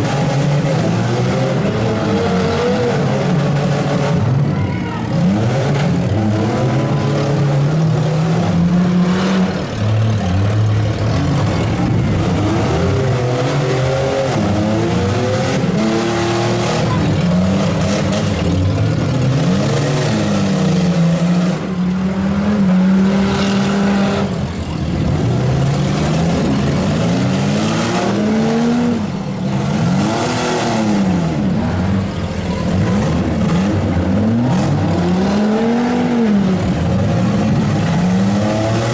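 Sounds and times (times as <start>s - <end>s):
cars hitting each other: 0.0s - 38.9s
engines revving hard: 0.0s - 38.9s.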